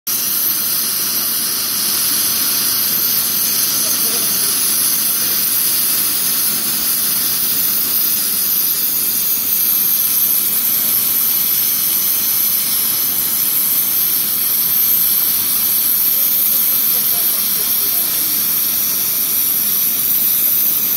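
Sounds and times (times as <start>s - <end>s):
cutting torch hissing: 0.1s - 20.9s.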